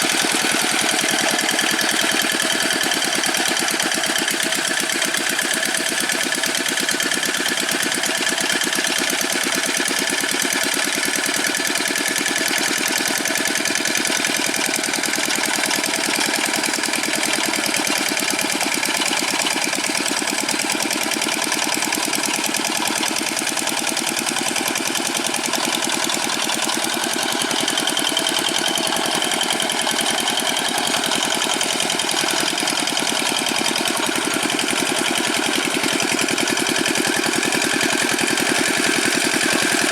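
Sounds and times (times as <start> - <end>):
single-cylinder diesel engine running: 0.0 - 39.9.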